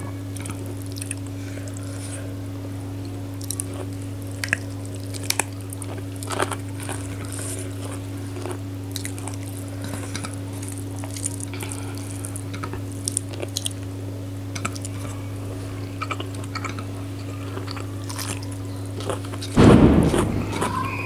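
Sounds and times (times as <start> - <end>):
steady low hum: 0.0 - 21.0
chewing and wet mouth sounds: 0.1 - 21.0.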